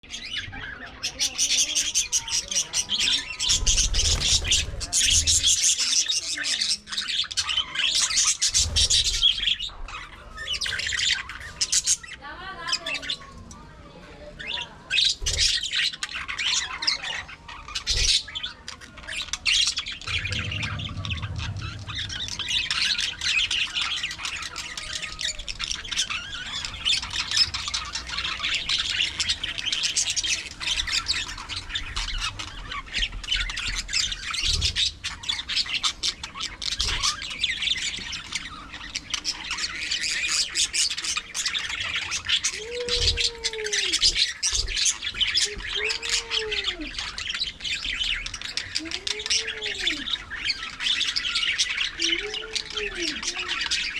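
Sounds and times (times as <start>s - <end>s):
budgerigars chattering: 0.0s - 13.3s, 14.4s - 53.9s.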